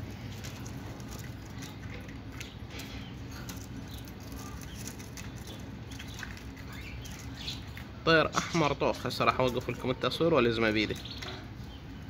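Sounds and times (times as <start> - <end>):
caged birds chirping faintly: 0.0 - 12.0
low steady hum: 0.0 - 12.0.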